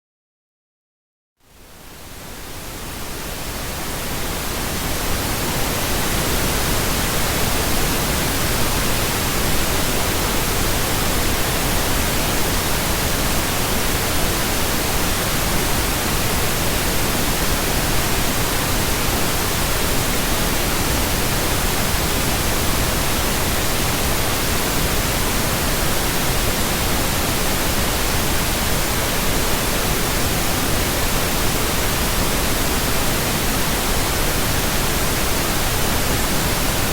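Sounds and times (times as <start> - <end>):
pink noise hiss: 1.4 - 36.9.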